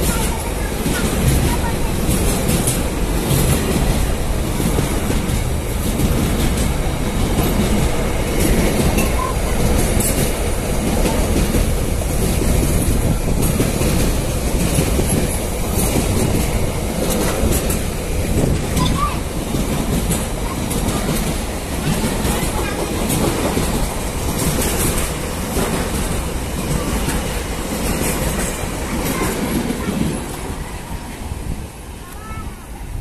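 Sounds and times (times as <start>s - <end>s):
wheels clicking over rail joints: 0.0s - 32.4s
freight train rumbling past: 0.0s - 33.0s.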